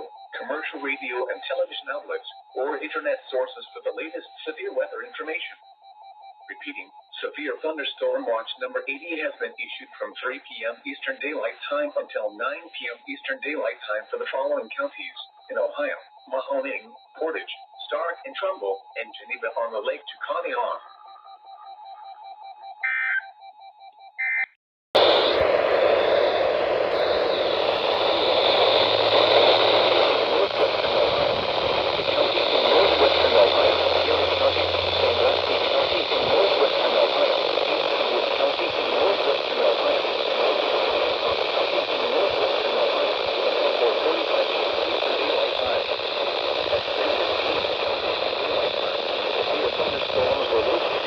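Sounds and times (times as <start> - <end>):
loud radio static hiss: 0.0 - 5.5, 6.5 - 20.8, 25.0 - 51.0
screeching data bursts: 0.0 - 23.4, 25.0 - 51.0
faint fast-pulsing tone: 0.0 - 24.0, 25.0 - 51.0.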